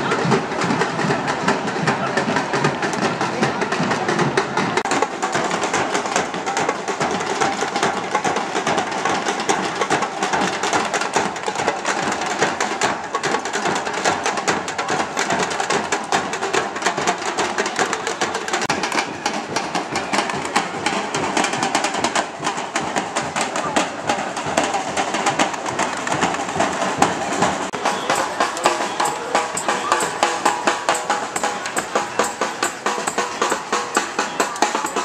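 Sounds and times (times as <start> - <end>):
drum band drumming: 0.0 - 35.0
large crowd noise: 0.0 - 35.0.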